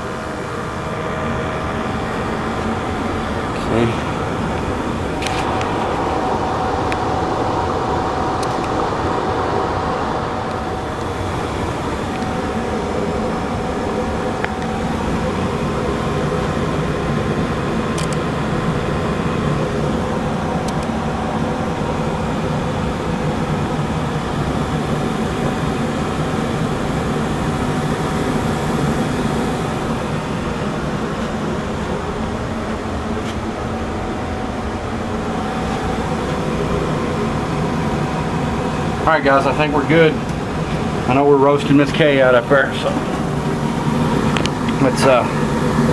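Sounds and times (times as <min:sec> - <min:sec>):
blower moving air: 0:00.0 - 0:45.9
gas burners firing: 0:00.0 - 0:45.9.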